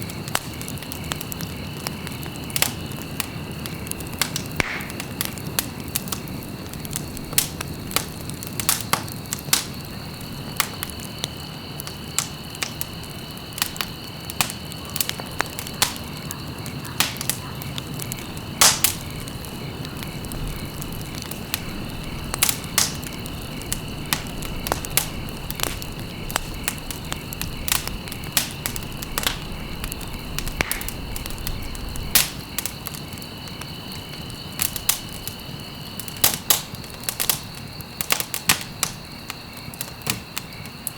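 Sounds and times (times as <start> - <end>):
campfire crackling and popping: 0.0 - 40.9
rush of flames: 0.0 - 40.9.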